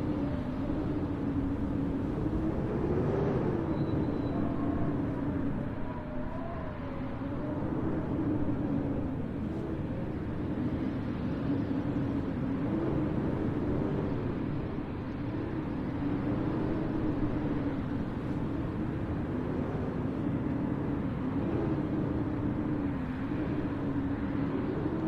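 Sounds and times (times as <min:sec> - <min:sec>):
snowstorm wind: 0:00.0 - 0:25.0.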